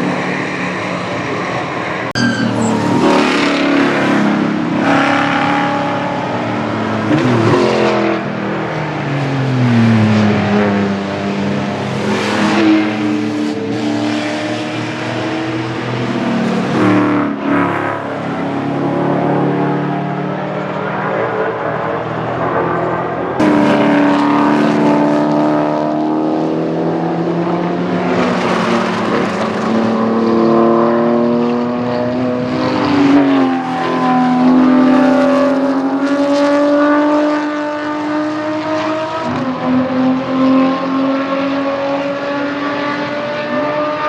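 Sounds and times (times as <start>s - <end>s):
race car engines at high revs: 0.0s - 44.0s.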